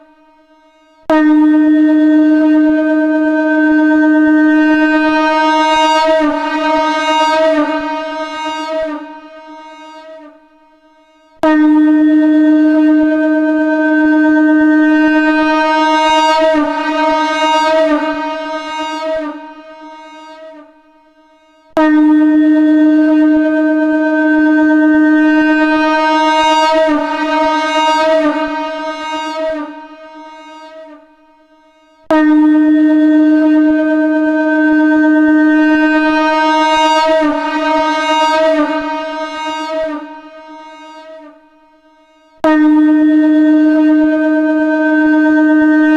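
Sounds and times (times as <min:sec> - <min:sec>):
conch shell blowing long note: 0:00.0 - 0:45.9.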